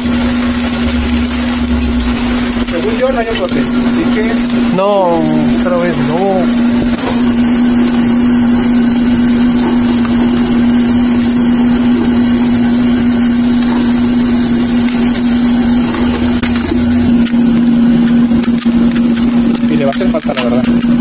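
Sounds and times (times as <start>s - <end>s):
electric air blower running: 0.0s - 21.0s.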